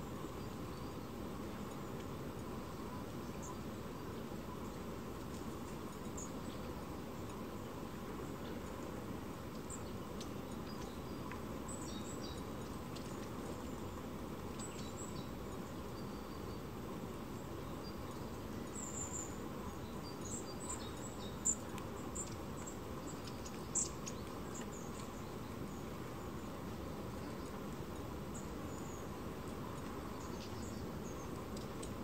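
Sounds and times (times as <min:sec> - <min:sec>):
low background noise: 0:00.0 - 0:32.0
songbirds chirping: 0:00.0 - 0:32.0.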